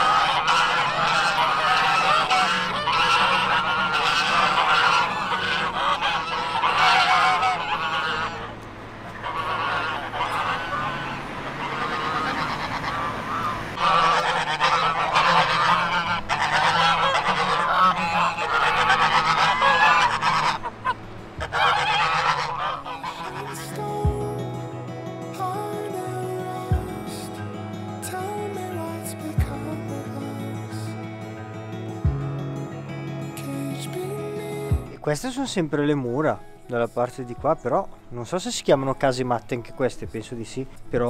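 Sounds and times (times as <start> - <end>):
geese honking: 0.0 - 37.0.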